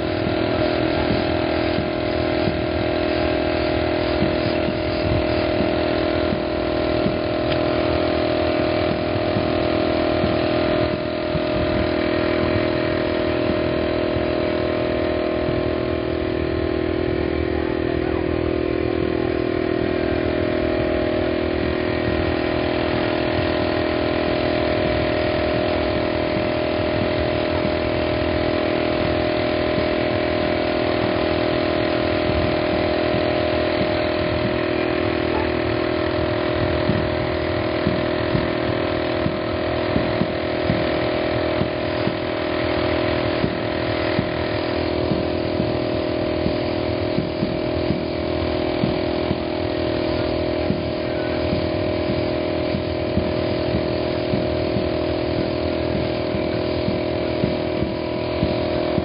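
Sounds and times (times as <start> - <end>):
steady motor drone: 0.0 - 59.0.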